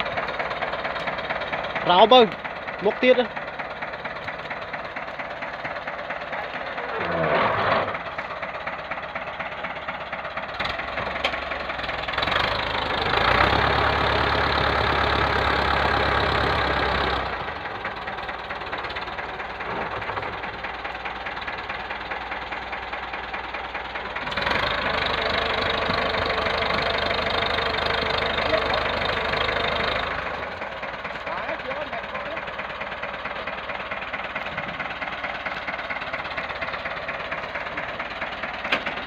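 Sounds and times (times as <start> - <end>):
tractor engine under load: 0.0 - 39.0.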